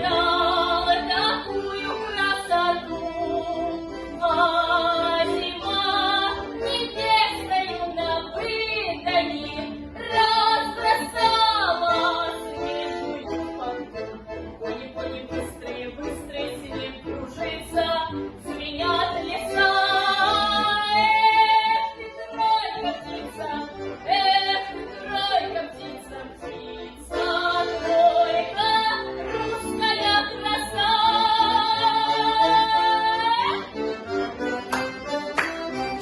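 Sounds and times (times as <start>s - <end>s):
woman singing with vibrato: 0.0s - 13.9s, 14.7s - 33.7s
accordion: 0.0s - 36.0s.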